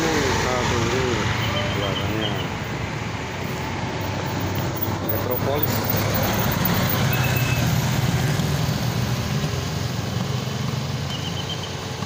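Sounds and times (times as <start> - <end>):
bus diesel engine humming: 0.0 - 12.0.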